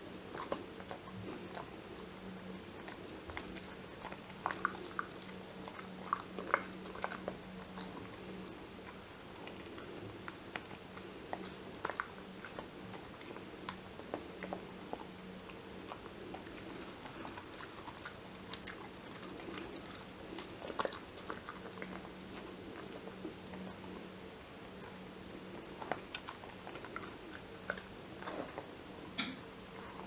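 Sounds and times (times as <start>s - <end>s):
dog chewing crunchy chew: 0.0s - 30.0s.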